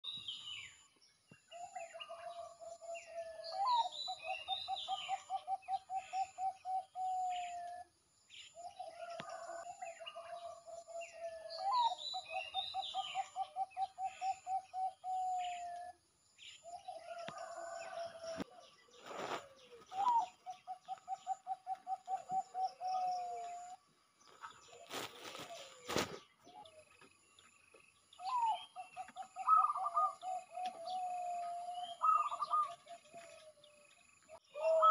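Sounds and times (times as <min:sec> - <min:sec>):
dove cooing song: 0:01.5 - 0:07.9, 0:08.6 - 0:16.0, 0:16.6 - 0:27.1, 0:28.1 - 0:34.9.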